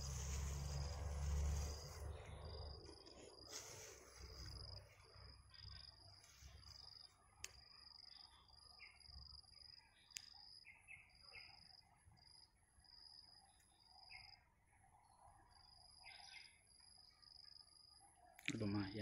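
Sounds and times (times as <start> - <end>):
bird chirps: 0.0 - 19.0
insect chirping in pulses: 0.0 - 19.0.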